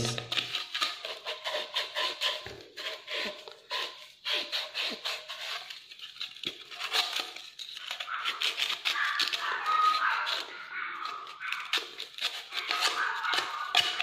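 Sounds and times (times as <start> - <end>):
sandpaper rasping on plastic pipe: 0.0 - 14.0.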